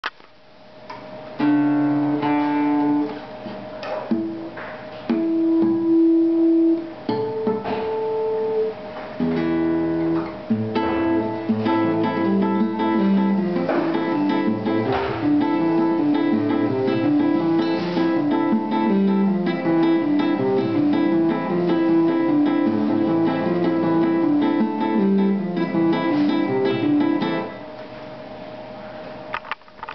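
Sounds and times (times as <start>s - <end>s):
fingerstyle nylon-string guitar: 1.3s - 27.7s.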